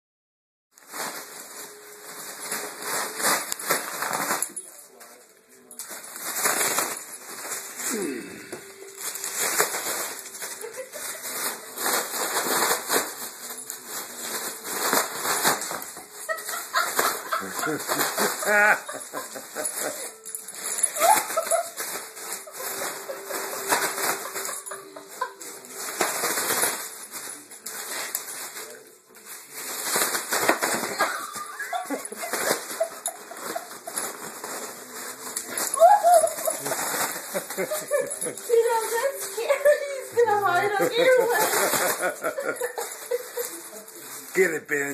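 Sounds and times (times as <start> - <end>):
balloon rustling and crinkling: 0.7 - 44.9.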